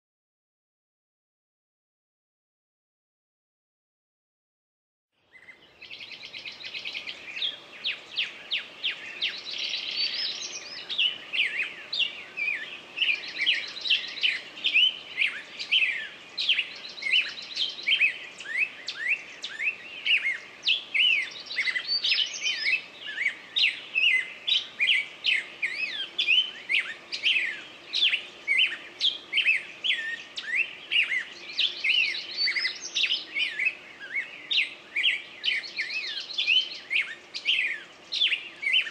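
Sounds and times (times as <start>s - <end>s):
songbirds singing: 5.2s - 38.9s.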